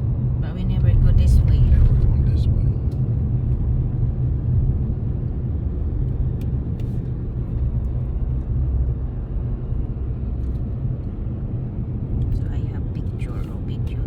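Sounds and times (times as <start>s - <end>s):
car engine rumble: 0.0s - 14.0s
tyre road noise: 0.0s - 14.0s.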